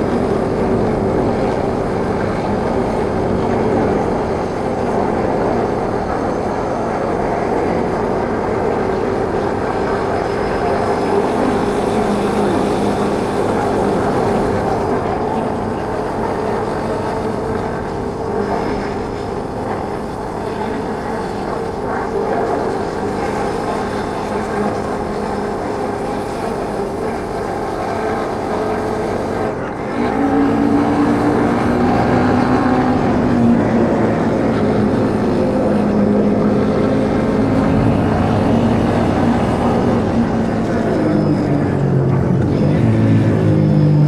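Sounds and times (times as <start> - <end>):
motorbike engine drone: 0.0 - 44.0
road noise: 0.0 - 44.0
wind noise: 0.0 - 44.0.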